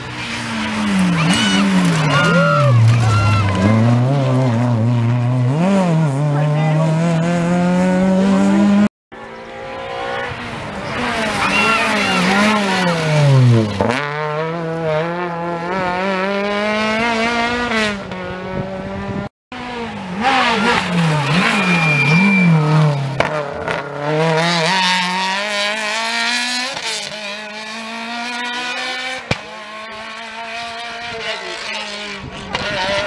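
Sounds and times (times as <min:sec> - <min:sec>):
rally car engine revving: 0:00.0 - 0:33.0
rally car passing: 0:00.0 - 0:33.0.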